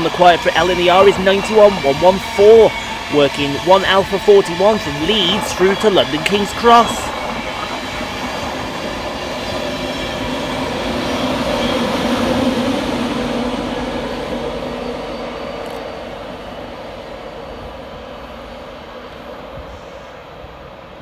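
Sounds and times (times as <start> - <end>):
train trundling past: 0.0 - 21.0.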